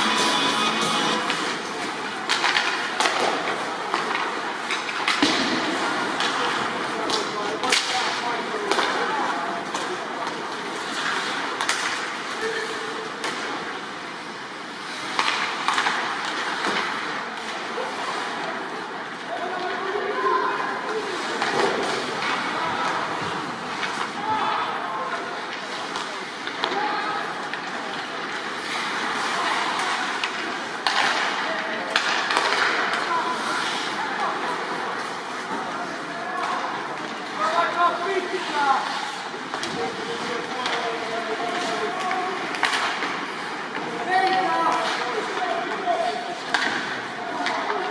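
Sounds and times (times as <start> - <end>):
hockey sticks and puck clacking: 0.0 - 18.4, 20.9 - 24.2, 27.4 - 47.9.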